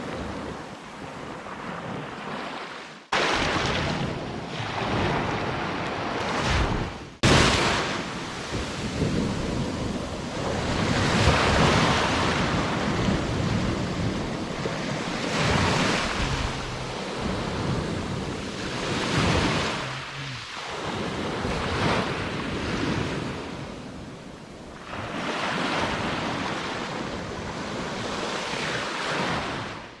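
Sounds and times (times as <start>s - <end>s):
sea waves washing on shore: 0.0s - 30.0s
wind rumbling on microphone: 3.8s - 28.7s.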